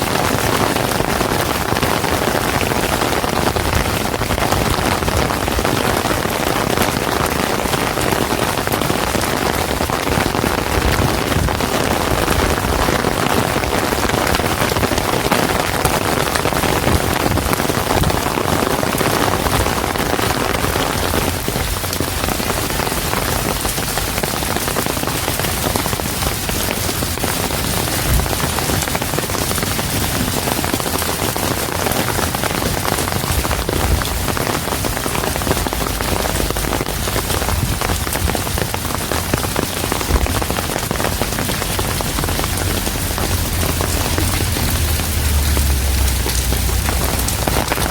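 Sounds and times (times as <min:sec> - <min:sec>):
rain on hard surfaces: 0:00.0 - 0:47.9.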